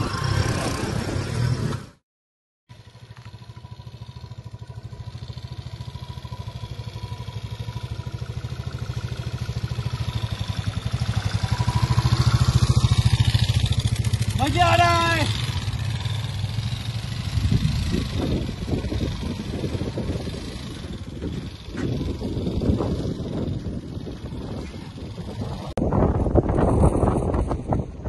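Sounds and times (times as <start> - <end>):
motorcycle engines running: 2.7 - 28.0.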